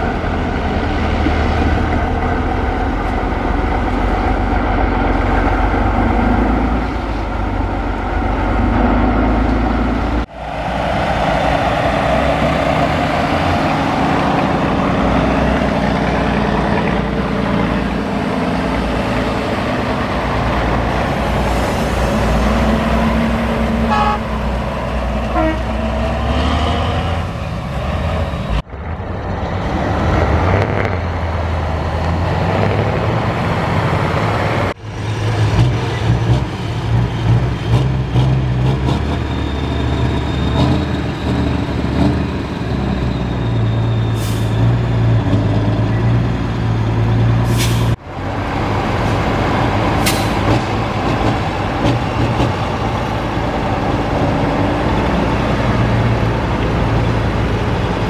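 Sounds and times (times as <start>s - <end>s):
heavy diesel truck engines: 0.0s - 58.0s.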